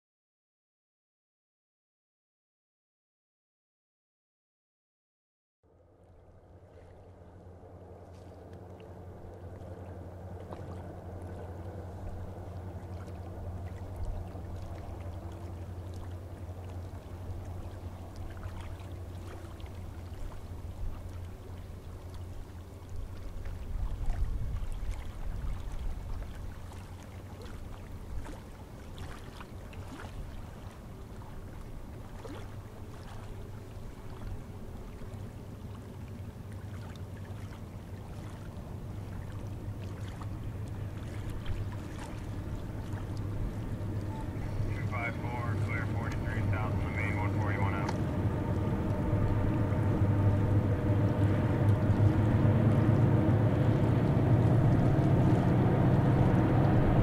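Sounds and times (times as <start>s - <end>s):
distant diesel engine drone: 5.7s - 23.7s, 26.2s - 57.0s.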